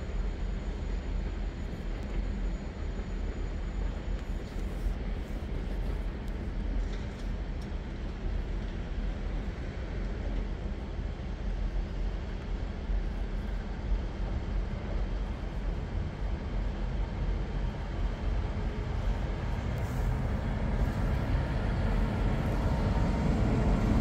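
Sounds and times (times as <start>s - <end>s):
diesel train rumbling: 0.0s - 24.0s.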